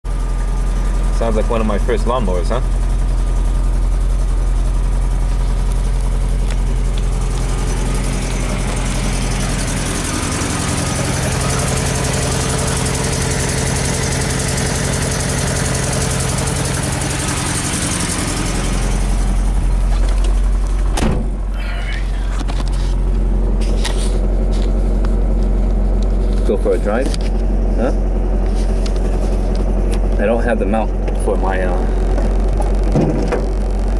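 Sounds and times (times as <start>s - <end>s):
pickup engine idling and revving: 0.1s - 33.9s.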